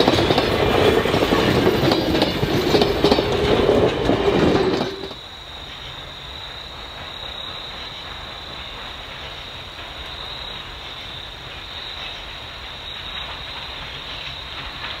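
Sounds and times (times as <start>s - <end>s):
distant steam locomotive rumble: 0.0s - 15.0s.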